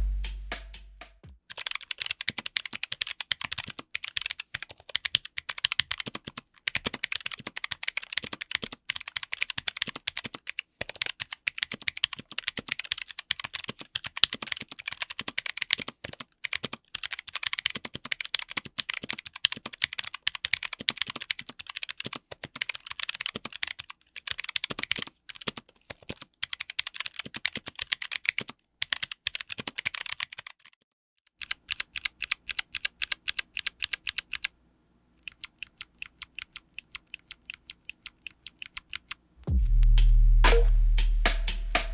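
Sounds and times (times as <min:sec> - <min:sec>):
fast typing on clicky keyboard: 0:01.4 - 0:34.5, 0:35.2 - 0:39.2.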